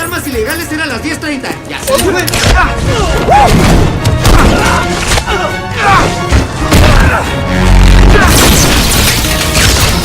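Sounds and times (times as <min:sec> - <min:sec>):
action film music: 0:00.0 - 0:10.0.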